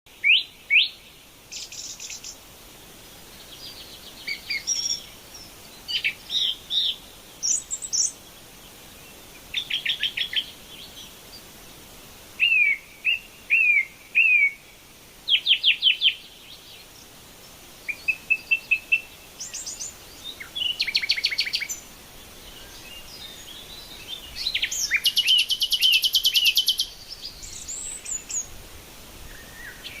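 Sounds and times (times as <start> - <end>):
wild birds chirping and singing: 0.1 - 30.0.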